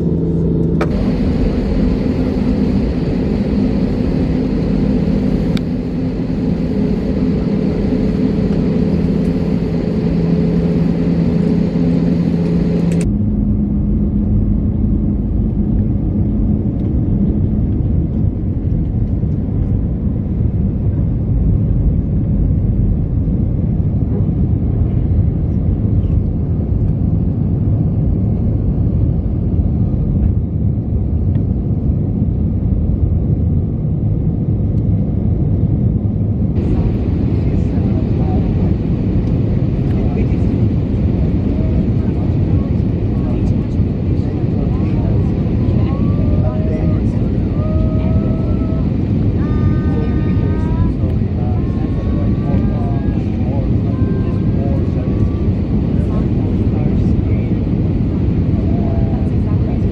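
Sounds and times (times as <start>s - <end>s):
jet cabin hum: 0.0s - 59.9s
jet engines rumbling at climb: 0.0s - 59.9s.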